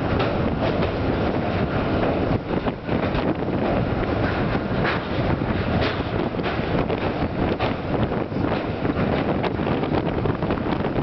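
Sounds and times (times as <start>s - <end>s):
train wheels rumbling on rails: 0.0s - 11.0s
wind buffeting microphone: 0.0s - 11.0s.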